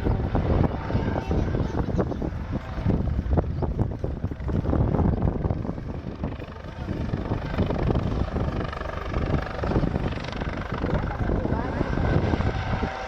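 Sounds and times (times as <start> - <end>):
helicopter rotor and engines: 0.0 - 13.0.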